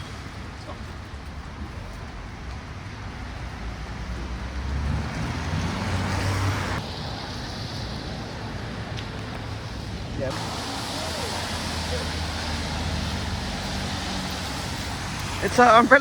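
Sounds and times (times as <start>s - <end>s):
road traffic rumble and hiss: 0.0s - 16.0s.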